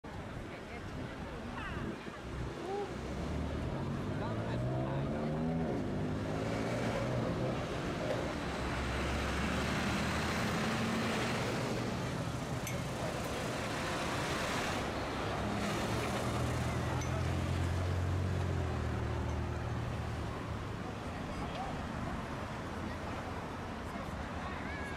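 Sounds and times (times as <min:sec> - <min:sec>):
traffic and tyre noise: 0:00.0 - 0:24.9.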